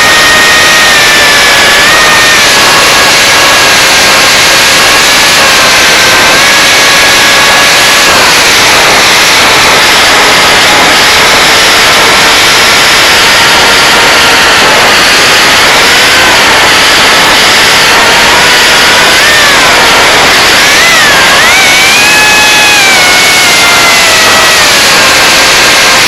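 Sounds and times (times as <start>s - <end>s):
electric motor propeller whine: 0.0s - 26.0s
heavy wind rush: 0.0s - 26.0s.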